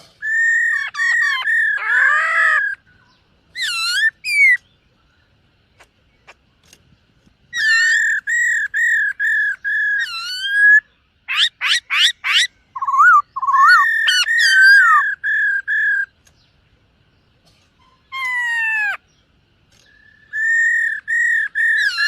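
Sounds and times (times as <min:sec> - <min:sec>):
bird singing whistled notes: 0:00.2 - 0:06.3, 0:07.5 - 0:16.6, 0:18.0 - 0:22.0.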